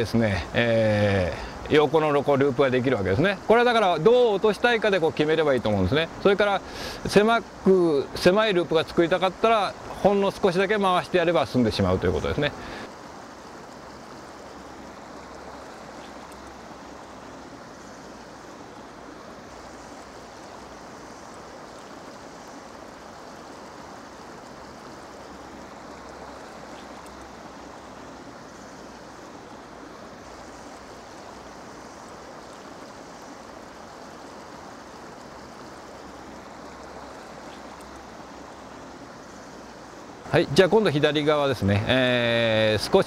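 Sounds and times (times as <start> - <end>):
stream running over gravel: 0.0 - 43.0.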